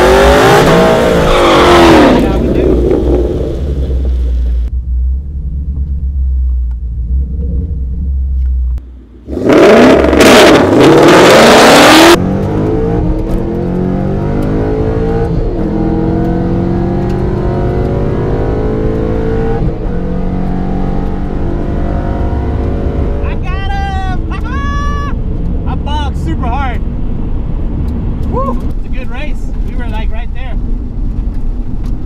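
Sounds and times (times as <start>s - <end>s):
car engine at full throttle: 0.0s - 32.0s.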